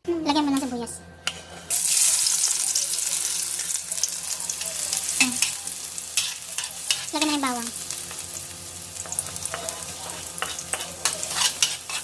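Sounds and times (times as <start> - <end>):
onion sizzling in hot oil: 1.7 - 12.0.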